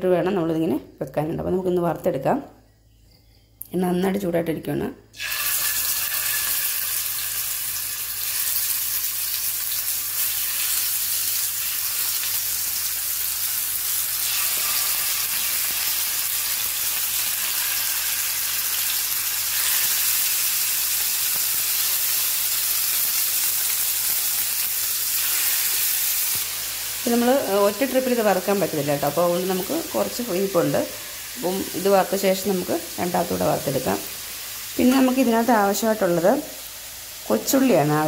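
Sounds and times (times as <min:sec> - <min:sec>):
chicken sizzling in frying pan: 0:05.2 - 0:38.0.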